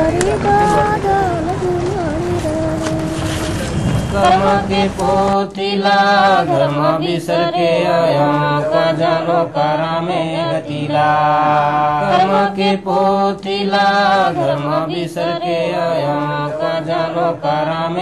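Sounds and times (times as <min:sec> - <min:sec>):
folk chanted singing: 0:00.0 - 0:18.0.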